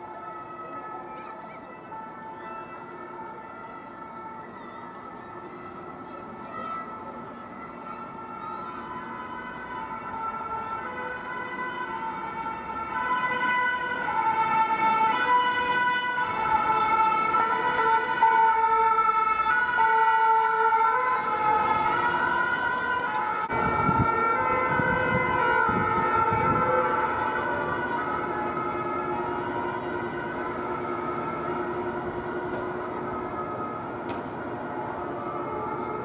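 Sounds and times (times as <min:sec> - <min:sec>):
two-tone sirens: 0:00.0 - 0:36.0.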